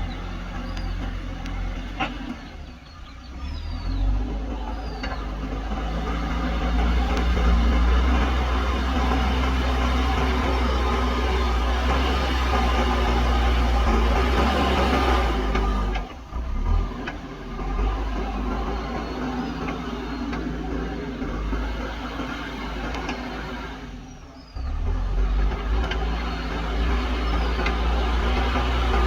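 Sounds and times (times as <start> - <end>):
diesel engine rumbling under load: 0.0 - 29.0.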